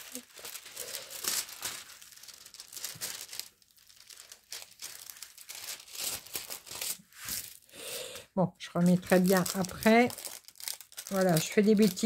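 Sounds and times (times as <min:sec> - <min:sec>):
plastic film crinkling: 0:00.0 - 0:07.8, 0:08.7 - 0:12.0.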